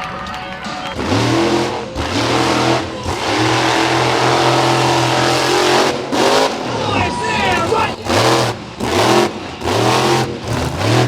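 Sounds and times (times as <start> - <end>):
truck engine revving hard: 0.7 - 11.0.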